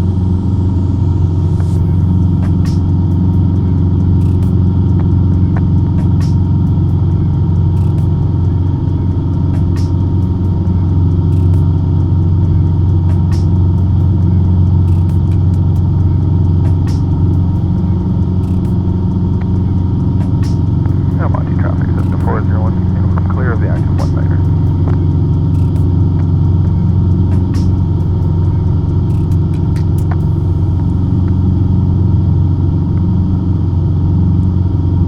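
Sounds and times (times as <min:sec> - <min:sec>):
airplane engine and propeller droning: 0:00.0 - 0:35.0.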